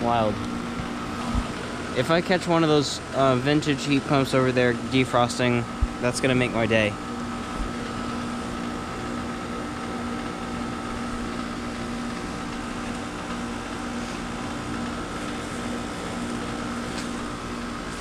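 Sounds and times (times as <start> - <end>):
compressor hum with whine: 0.0 - 18.0
condenser fans rushing: 0.0 - 18.0.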